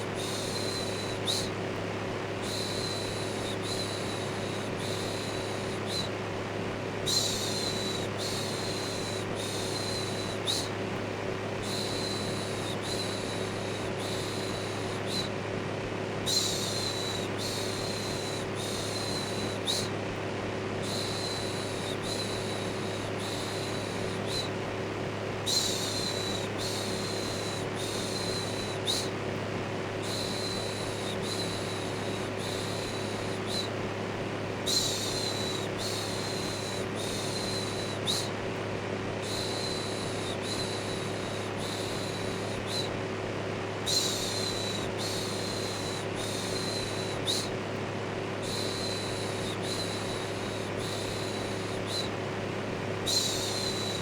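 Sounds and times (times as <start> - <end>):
electric fan humming: 0.0 - 54.0.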